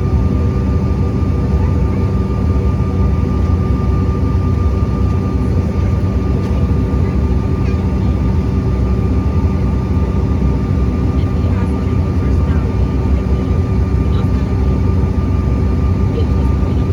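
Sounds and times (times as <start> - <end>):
airliner engine and airflow rumble: 0.0 - 16.9
constant cabin hums: 0.0 - 16.9.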